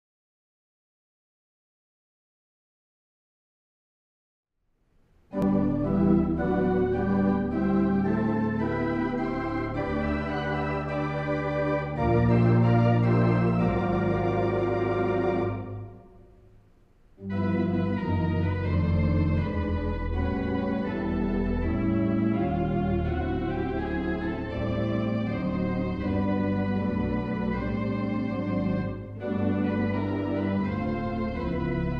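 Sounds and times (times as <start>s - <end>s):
organ playing sustained chords: 5.3s - 16.2s, 17.2s - 31.9s.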